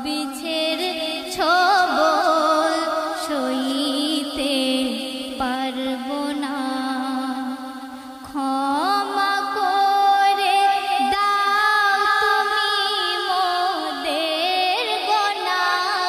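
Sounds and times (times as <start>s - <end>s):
woman singing devotional song: 0.0s - 16.0s.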